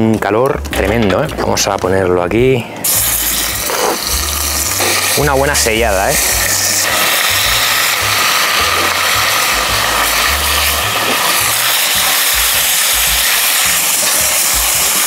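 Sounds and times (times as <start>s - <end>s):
meat sizzling in a pot: 2.8s - 15.0s.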